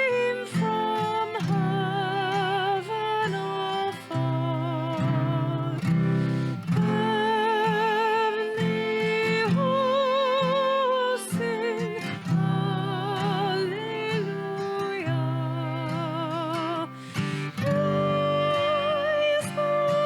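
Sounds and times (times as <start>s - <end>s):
person singing with vibrato: 0.0s - 20.0s
strummed acoustic guitar: 0.0s - 20.0s.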